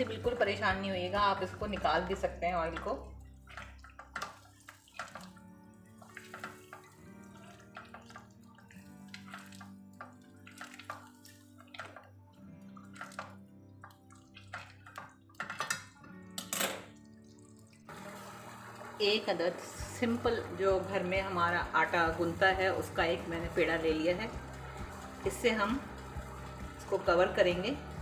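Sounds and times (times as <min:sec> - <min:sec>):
quiet background music: 0:00.0 - 0:28.0
spatula stirring sauce in pot: 0:01.2 - 0:15.9, 0:19.8 - 0:28.0.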